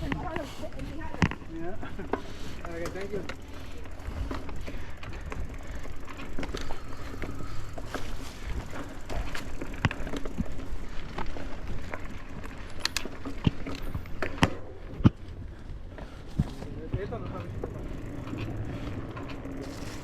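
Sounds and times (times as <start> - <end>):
bike clicks and rattles: 0.0 - 20.0.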